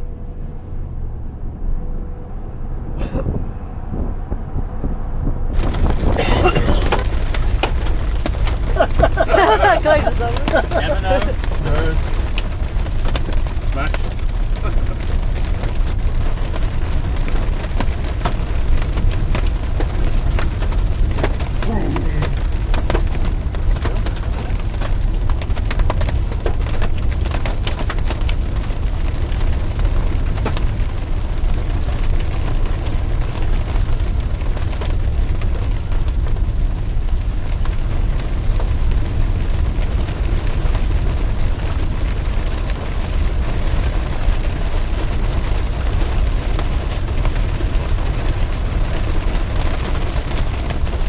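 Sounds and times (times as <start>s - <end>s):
wind rumble on microphone: 0.0s - 51.0s
heavy rain drumming on a vehicle: 4.0s - 51.0s
hailstones hitting: 5.5s - 51.0s.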